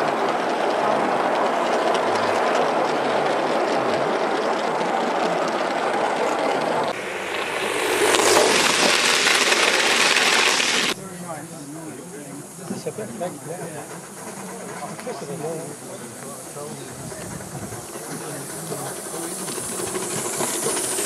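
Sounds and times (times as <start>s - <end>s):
model locomotive hissing rush: 0.0s - 21.0s
model train wheels rattling on rail: 0.0s - 21.0s.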